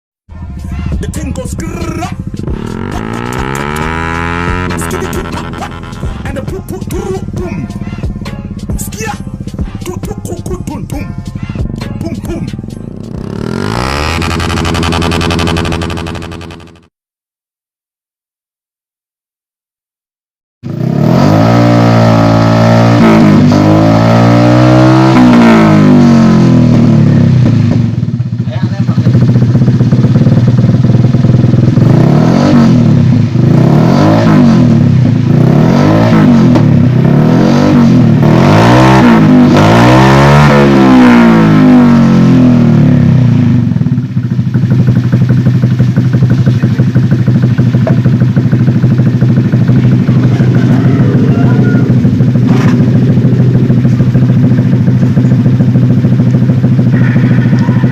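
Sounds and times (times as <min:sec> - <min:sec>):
scooter engine revving: 0:01.6 - 0:09.6, 0:12.8 - 0:16.9, 0:20.6 - 0:57.9.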